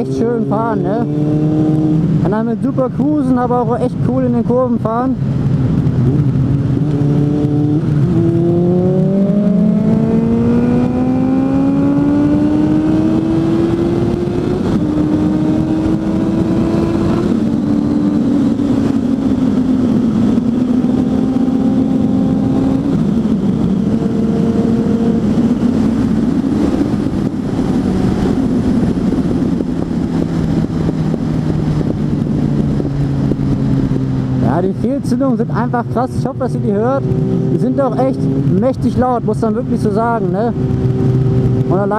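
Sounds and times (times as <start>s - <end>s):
motorcycle engine revving: 0.0s - 41.9s
wind rushing over microphone: 0.0s - 41.9s.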